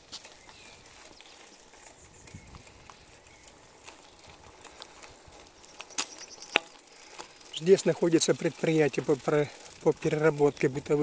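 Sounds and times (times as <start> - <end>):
bicycle rattling on concrete: 0.0 - 11.0.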